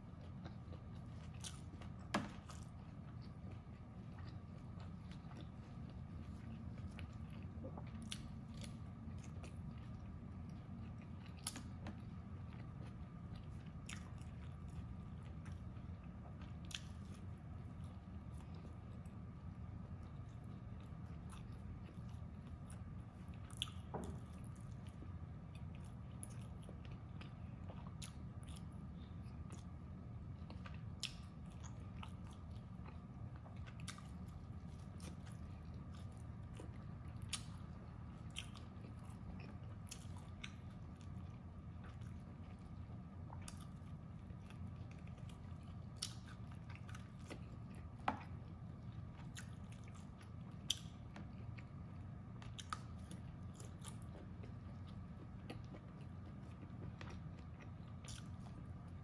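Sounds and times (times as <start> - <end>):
person chewing: 0.0 - 59.0
steady low hum: 0.0 - 59.0.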